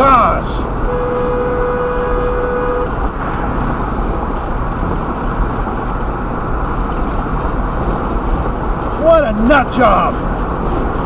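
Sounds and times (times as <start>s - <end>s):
road and tyre noise inside car: 0.0s - 11.0s.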